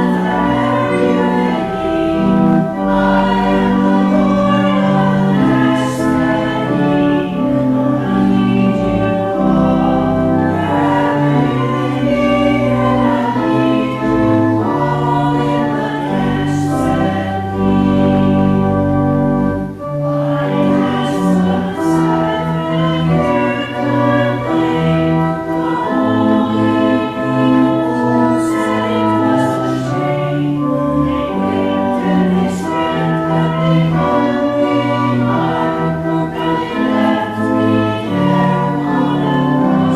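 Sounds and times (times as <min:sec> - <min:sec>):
choir singing: 0:00.0 - 0:39.9
organ: 0:00.0 - 0:39.9.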